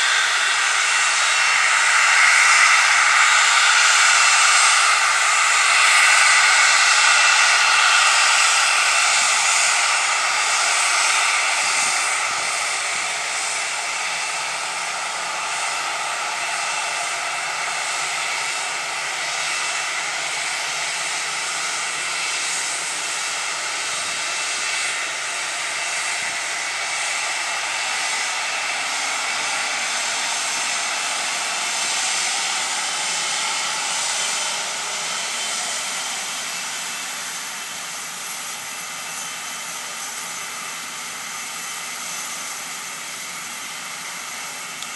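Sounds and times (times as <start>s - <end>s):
jet engines whining: 0.0s - 44.9s.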